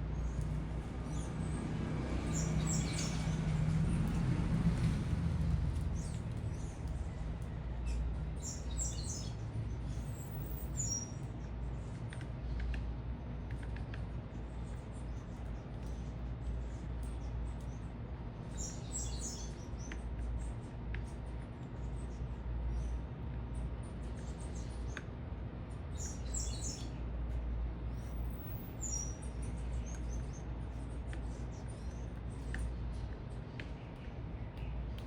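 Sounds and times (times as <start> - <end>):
low city rumble: 0.0 - 35.0
small birds chirping: 0.0 - 35.0.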